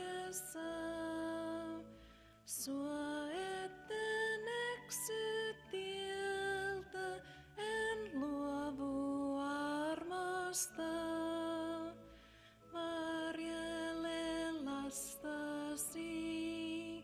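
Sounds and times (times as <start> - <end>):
slow hymn singing: 0.0 - 17.0.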